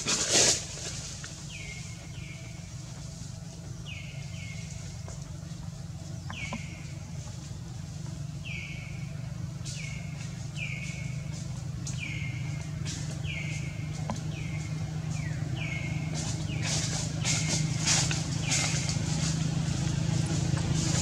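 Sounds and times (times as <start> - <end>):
steady low hum: 0.0 - 21.0
bird calling: 1.2 - 21.0.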